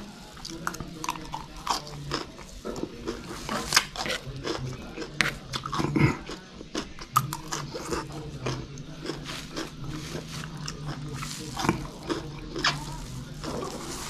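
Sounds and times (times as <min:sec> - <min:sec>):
wet chewing and crunching: 0:00.0 - 0:14.0.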